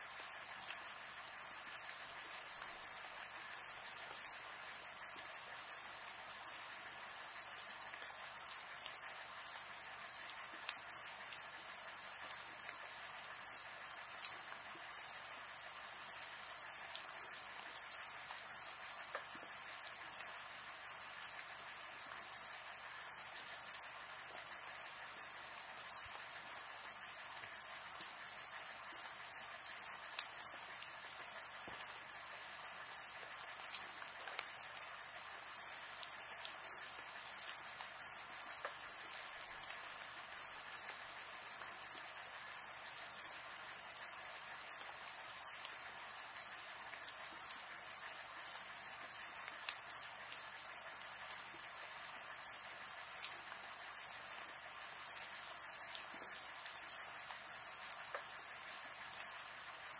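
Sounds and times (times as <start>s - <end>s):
faint hiss: 0.0s - 59.9s
high insect chirp pulses: 0.0s - 59.9s
steady high insect trill: 0.0s - 59.9s.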